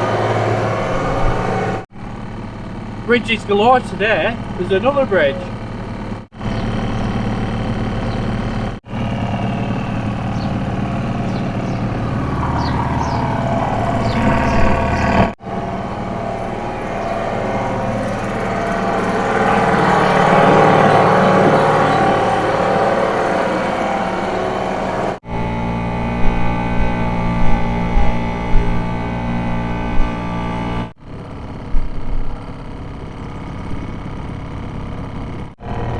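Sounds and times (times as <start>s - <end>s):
outboard motor running: 0.0s - 35.9s.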